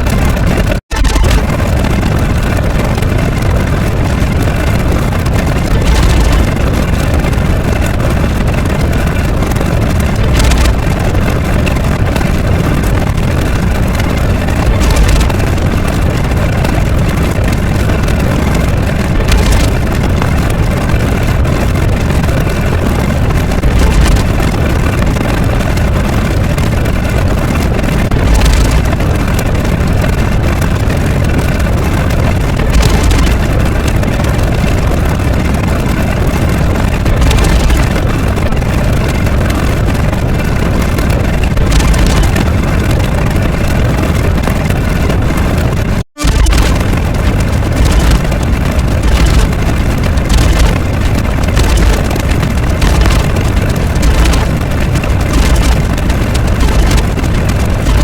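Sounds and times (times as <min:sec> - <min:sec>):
loud steady rumbling: 0:00.0 - 0:58.0.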